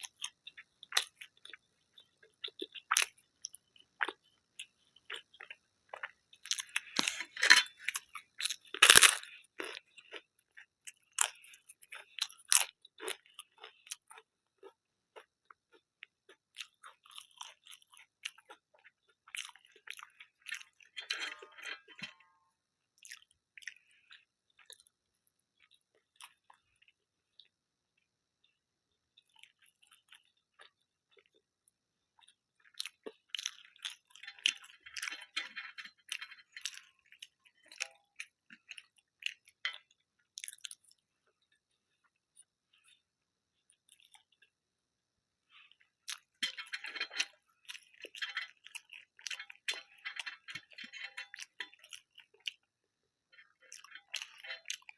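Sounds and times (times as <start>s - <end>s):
person chewing: 0.0s - 22.4s, 23.0s - 27.5s, 32.2s - 44.6s, 45.5s - 52.7s, 53.3s - 54.9s.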